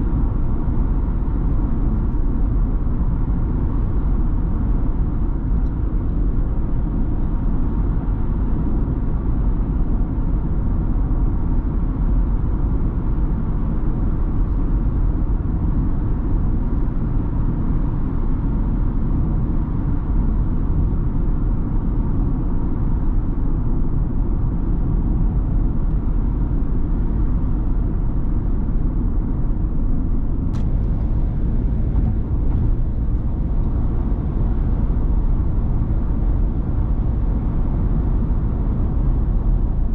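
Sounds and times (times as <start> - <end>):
van engine and road noise: 0.0 - 39.9.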